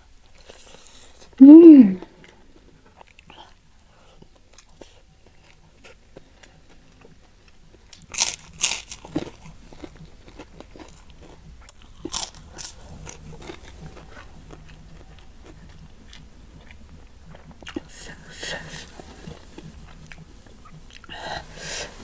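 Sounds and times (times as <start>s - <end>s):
chewing and crunching: 0.2s - 1.4s, 2.1s - 22.0s.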